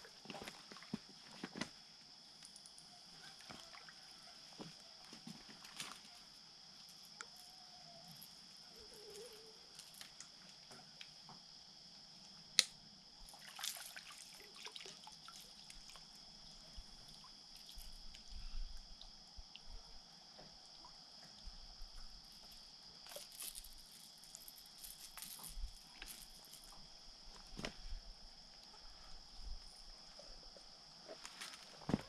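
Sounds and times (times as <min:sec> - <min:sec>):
night insects chirring: 0:00.0 - 0:32.0.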